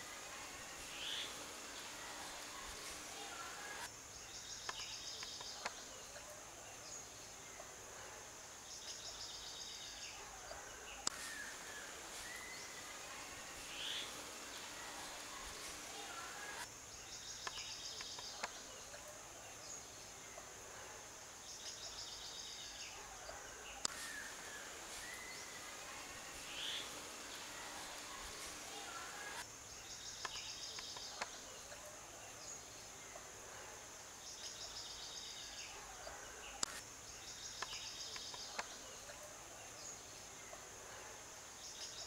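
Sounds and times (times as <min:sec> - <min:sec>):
birds chirping: 0:00.0 - 0:07.8, 0:08.6 - 0:20.6, 0:21.4 - 0:40.8
insects buzzing with trills: 0:00.0 - 0:42.0.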